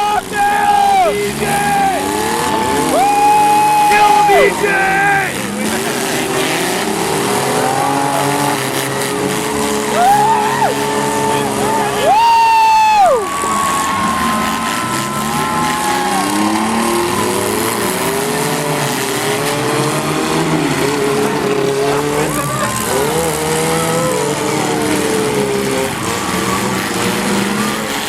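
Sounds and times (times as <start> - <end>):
truck engines revving: 0.0 - 28.0.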